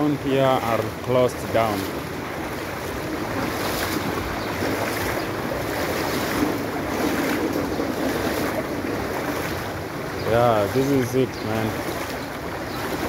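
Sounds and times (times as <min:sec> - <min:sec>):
wading through floodwater: 0:00.0 - 0:13.0.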